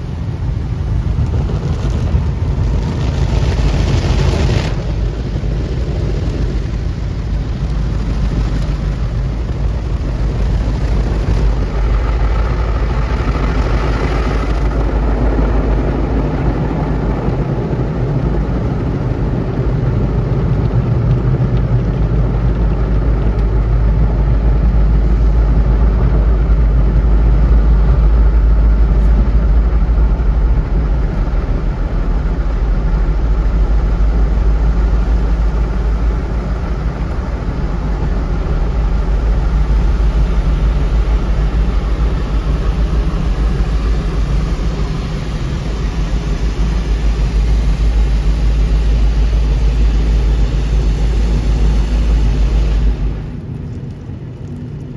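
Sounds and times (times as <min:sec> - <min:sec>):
car wash machinery rumbling: 0:00.0 - 0:54.9
rushing noise: 0:00.0 - 0:54.9.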